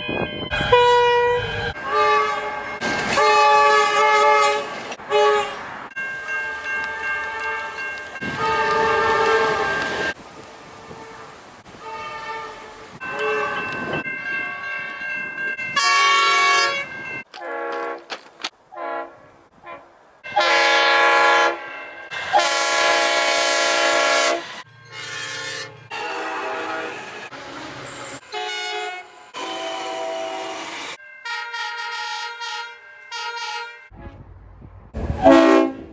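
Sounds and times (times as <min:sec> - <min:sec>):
train horn blasts: 0:00.0 - 0:05.7, 0:07.3 - 0:14.0, 0:15.7 - 0:18.1, 0:18.7 - 0:27.3, 0:28.2 - 0:30.6, 0:31.2 - 0:34.2, 0:35.0 - 0:35.9.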